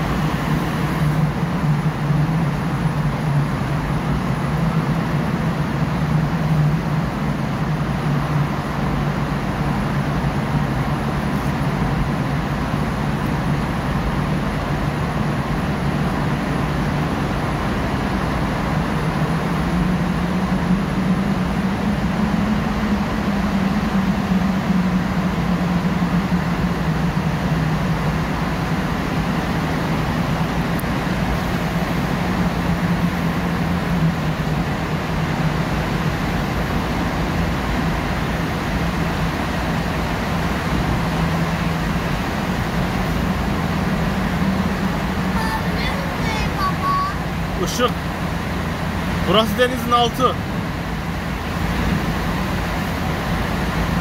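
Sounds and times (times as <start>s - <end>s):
low engine drone: 0.0s - 54.0s.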